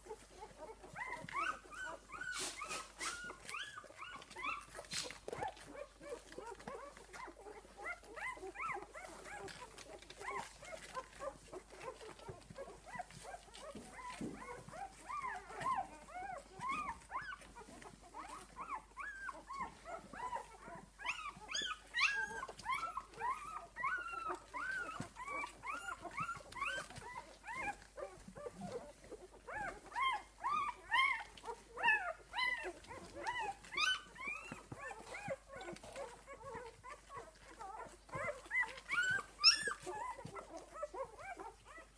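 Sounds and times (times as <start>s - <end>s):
puppies squeaking and whimpering: 0.0s - 41.9s.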